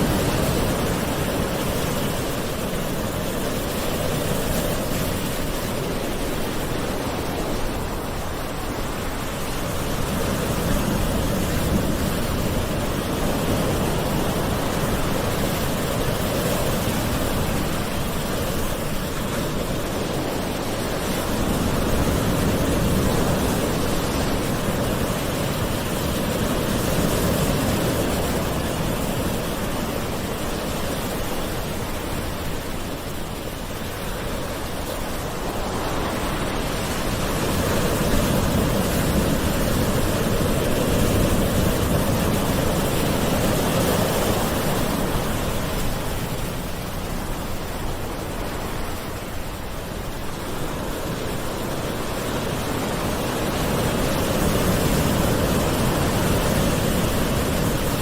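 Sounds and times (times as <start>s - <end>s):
sea waves washing in: 0.0s - 58.0s.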